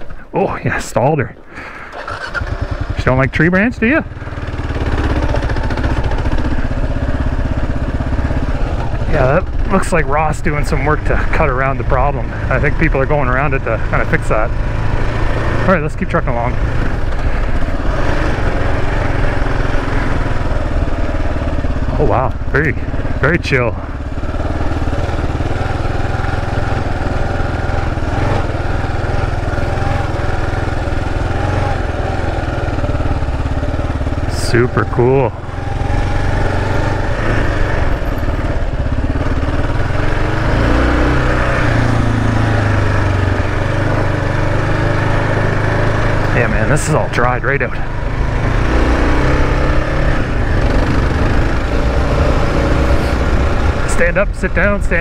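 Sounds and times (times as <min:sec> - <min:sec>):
motorcycle engine running: 0:01.6 - 0:55.0.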